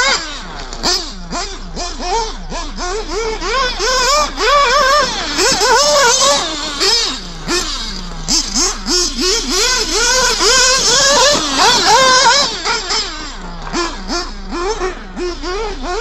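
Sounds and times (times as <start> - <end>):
small two-stroke engine revving: 0.0 - 16.0.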